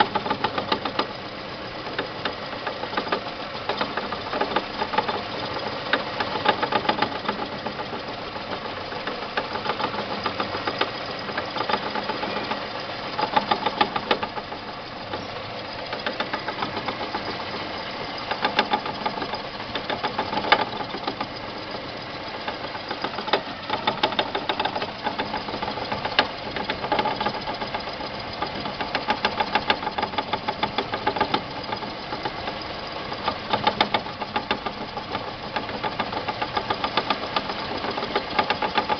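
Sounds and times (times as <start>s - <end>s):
car engine running: 0.0s - 38.9s
rapid knocking: 0.0s - 38.9s.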